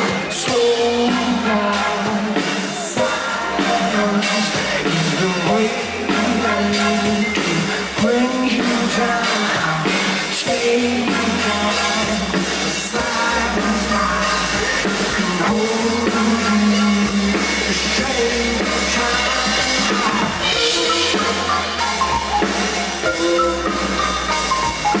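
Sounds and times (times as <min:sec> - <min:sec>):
live band music: 0:00.0 - 0:25.0.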